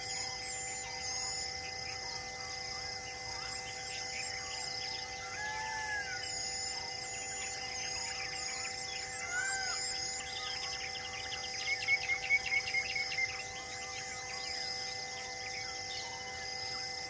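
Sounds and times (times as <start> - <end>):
steady droning tones: 0.0 - 17.0
birds chirping and whistling: 3.1 - 16.8.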